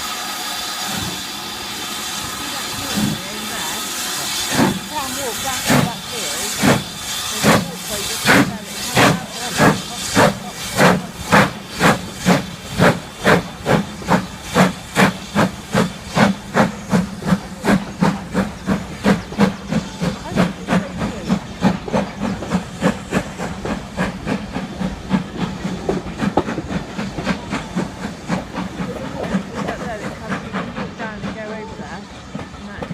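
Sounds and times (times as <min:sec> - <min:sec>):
steam locomotive exhaust chuffing: 0:00.0 - 0:32.9.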